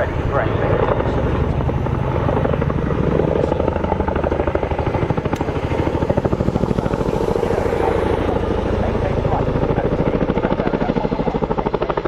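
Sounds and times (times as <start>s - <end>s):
helicopter engine noise: 0.0s - 12.0s
helicopter rotor blade slap: 0.0s - 12.0s.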